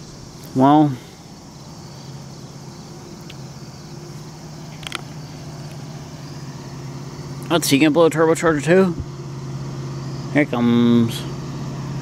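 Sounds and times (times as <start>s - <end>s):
distant diesel locomotive drone: 0.0s - 12.0s.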